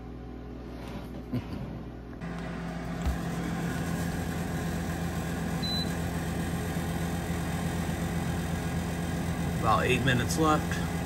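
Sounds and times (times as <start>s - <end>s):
convection fan whirring: 0.0s - 11.0s.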